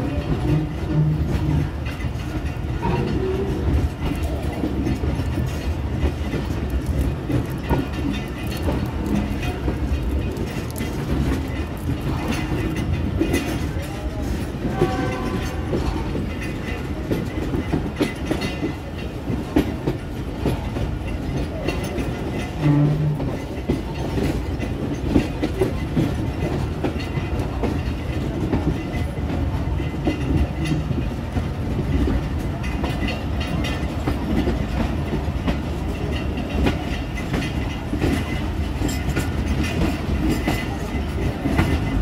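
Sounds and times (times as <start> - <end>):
train rumble: 0.0 - 42.0
train wheels clacking: 0.0 - 42.0.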